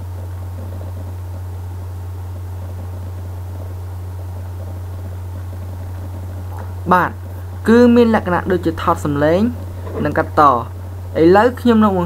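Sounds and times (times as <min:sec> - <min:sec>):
steady low hum with hiss: 0:00.0 - 0:12.0.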